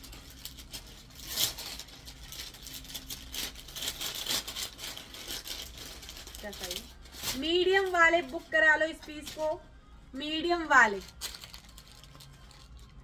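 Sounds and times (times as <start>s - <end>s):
clothes rustling and crinkling: 0.0s - 9.7s, 10.5s - 13.0s.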